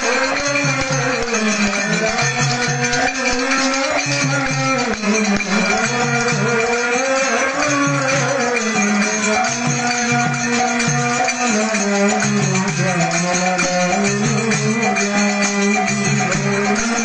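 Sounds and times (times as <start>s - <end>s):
hand percussion beat: 0.0s - 17.0s
harmonium melody: 0.0s - 17.0s
voices singing a chant: 0.0s - 17.0s.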